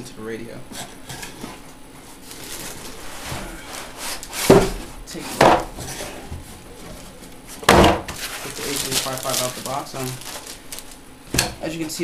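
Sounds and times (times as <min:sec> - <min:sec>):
cardboard rustling and scraping: 0:00.8 - 0:11.0.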